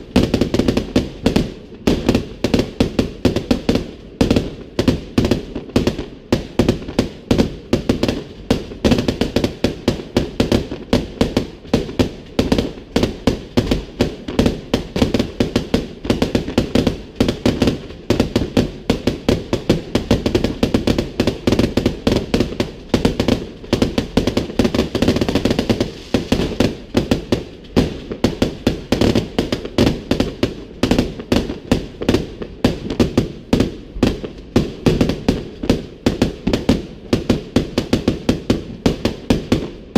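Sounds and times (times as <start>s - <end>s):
firework bangs: 0.0s - 39.9s.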